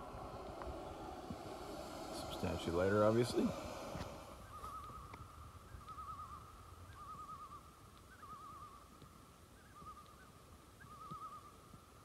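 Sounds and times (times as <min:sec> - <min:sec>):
loon tremolo calls: 0:00.0 - 0:11.8.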